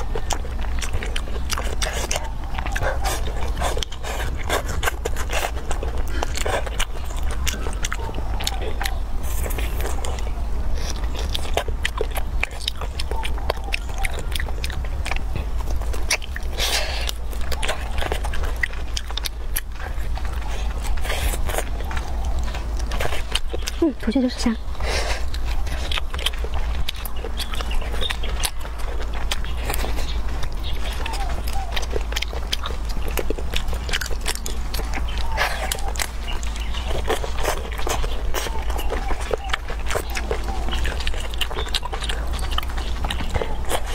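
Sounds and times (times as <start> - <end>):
chewing with mouth clicks: 0.0 - 43.9
steady low hum: 0.0 - 43.9.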